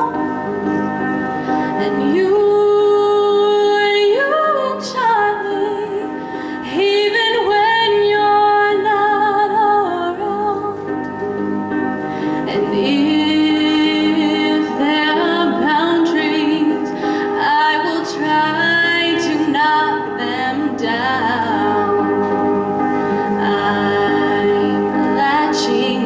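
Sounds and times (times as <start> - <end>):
woman singing into a microphone: 0.0 - 0.6, 1.7 - 11.0, 12.4 - 26.0
instrumental accompaniment: 0.0 - 4.2, 4.8 - 26.0.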